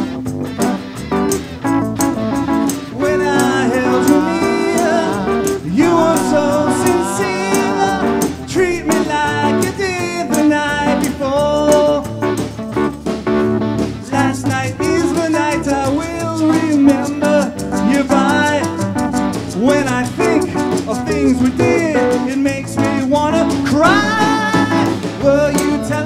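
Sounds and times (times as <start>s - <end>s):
live rock band playing: 0.0s - 26.0s
shaken tambourine: 0.0s - 26.0s
lead vocal singing: 2.9s - 12.4s, 14.0s - 18.9s, 19.5s - 26.0s.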